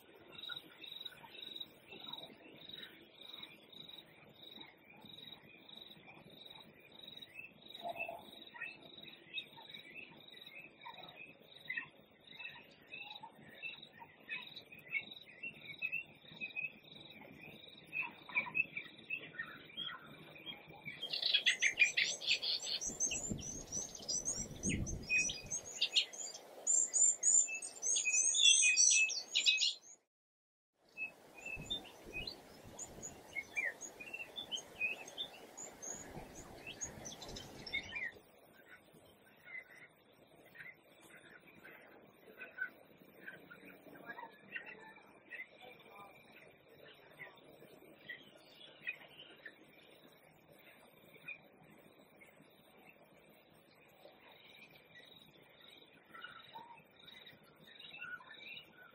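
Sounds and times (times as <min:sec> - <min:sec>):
birds chirping and twittering: 0:00.0 - 0:30.1, 0:30.9 - 0:58.9.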